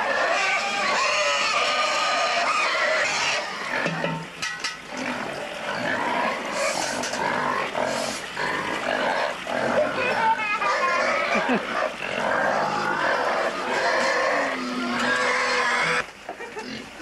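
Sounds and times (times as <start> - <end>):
pigs squealing and grunting: 0.0 - 4.2, 4.9 - 16.0.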